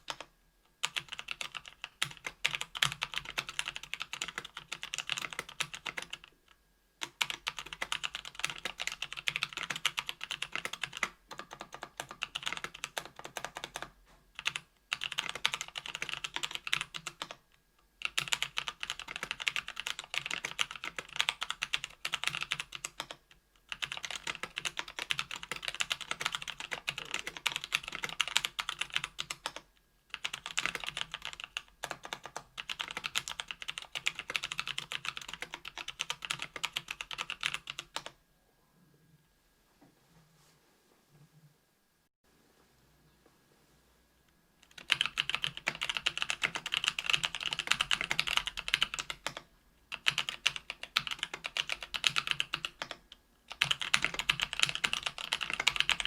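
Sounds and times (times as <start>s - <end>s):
fast typing on mechanical keyboard: 0.0s - 6.4s, 7.0s - 17.4s, 18.0s - 38.2s, 44.6s - 56.0s.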